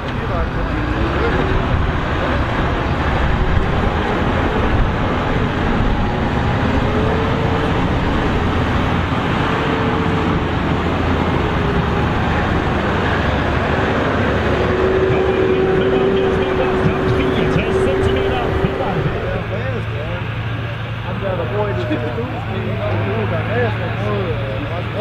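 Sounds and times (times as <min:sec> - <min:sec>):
faint whine: 0:00.0 - 0:25.0
tractor diesel engine under load: 0:00.0 - 0:25.0.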